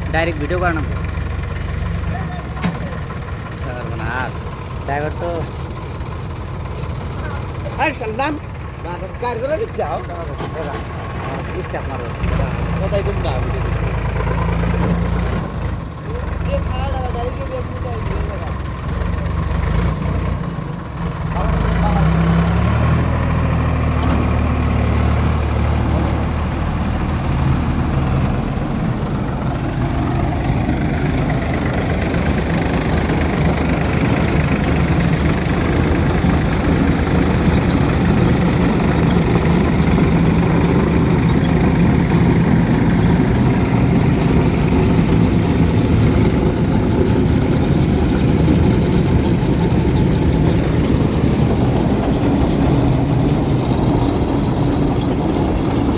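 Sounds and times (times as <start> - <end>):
diesel machinery engine running: 0.0 - 55.9.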